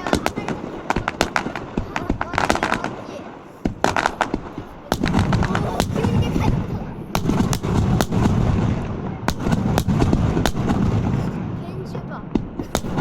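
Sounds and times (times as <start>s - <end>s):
booming rumble: 0.0s - 13.0s
fireworks bangs: 0.0s - 13.0s.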